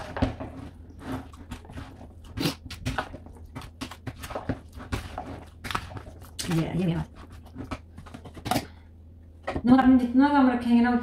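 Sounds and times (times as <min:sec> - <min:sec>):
plastic spoon stirring wet food: 0:00.0 - 0:09.7.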